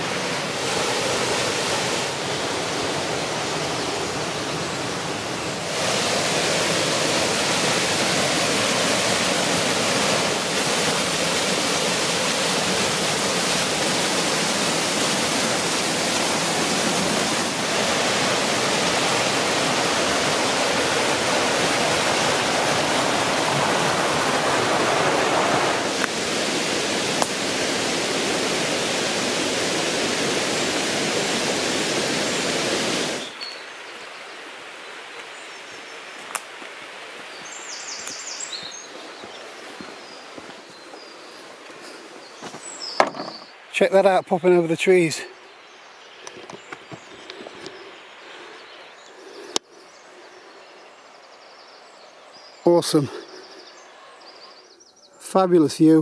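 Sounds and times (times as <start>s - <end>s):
waterfall roaring: 0.0s - 45.2s.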